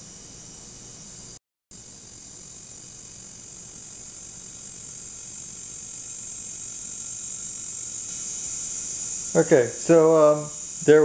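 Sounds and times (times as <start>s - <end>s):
power supply high-pitched whine: 0.0s - 11.0s.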